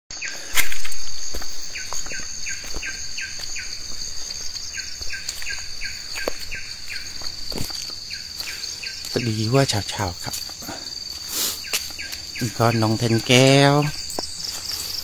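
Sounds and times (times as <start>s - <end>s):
insect drone: 0.1s - 15.0s.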